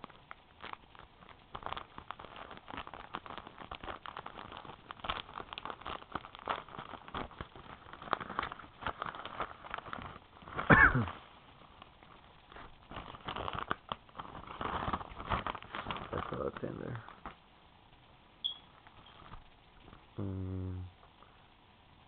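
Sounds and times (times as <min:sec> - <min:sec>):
packaging crackling and rustling: 0:00.0 - 0:17.4, 0:18.7 - 0:20.1.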